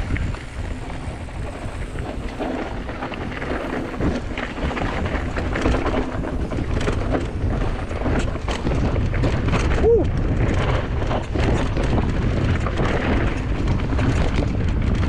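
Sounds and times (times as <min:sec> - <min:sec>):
bike knocking and rattling: 0:00.0 - 0:15.0
bike tyres crunching on dirt: 0:00.0 - 0:15.0
wind rumble on microphone: 0:00.0 - 0:15.0.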